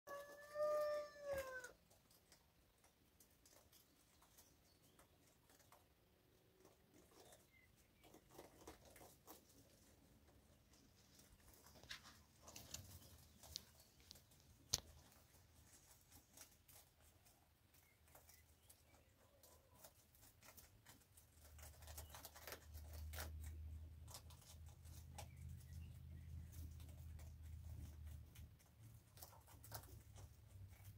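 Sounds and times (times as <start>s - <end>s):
rabbits feeding clicks and rustles: 0.1s - 30.9s.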